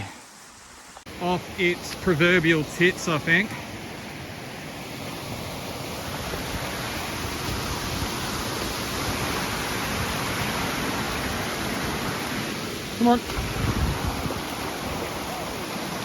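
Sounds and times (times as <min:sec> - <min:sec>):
creek and waterfall rushing: 0:00.0 - 0:16.0.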